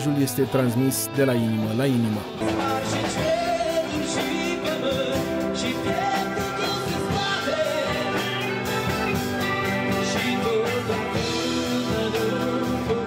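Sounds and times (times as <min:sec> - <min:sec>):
acoustic and electric guitars: 0:00.0 - 0:13.0
man singing: 0:00.0 - 0:13.0
drum kit beat: 0:02.2 - 0:13.0.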